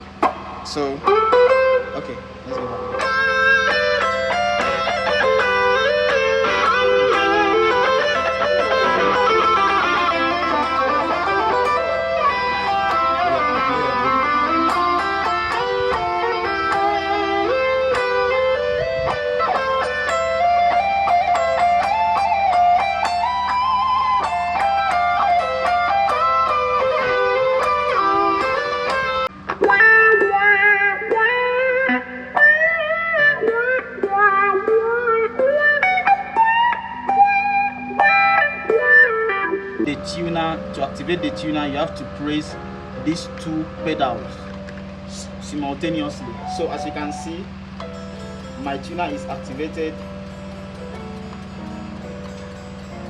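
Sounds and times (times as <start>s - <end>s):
electric guitar lead line: 0.0s - 53.0s.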